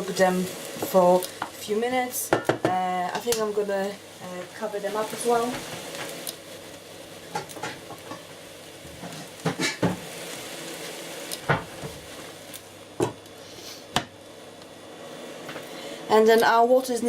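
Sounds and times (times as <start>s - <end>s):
mushrooms sizzling in a pan: 0.0s - 17.0s.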